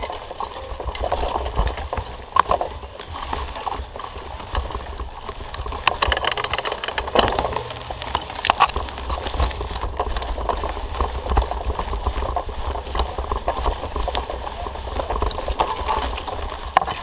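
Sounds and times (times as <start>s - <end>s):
mountain bike rattling and clattering: 0.0s - 17.0s
wind rumble on microphone: 0.0s - 17.0s.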